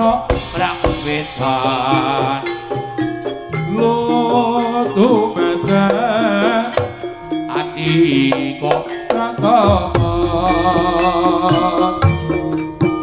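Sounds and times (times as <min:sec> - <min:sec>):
gamelan ensemble music: 0:00.0 - 0:13.0
hand drums beating: 0:00.0 - 0:13.0
ringing gongs: 0:00.0 - 0:13.0.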